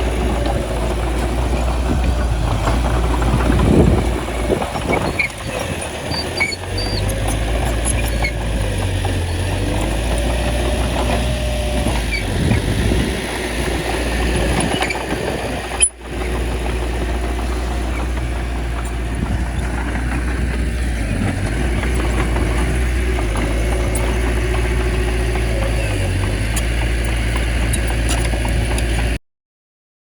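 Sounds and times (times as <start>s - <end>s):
bulldozer diesel engine running: 0.0s - 29.2s.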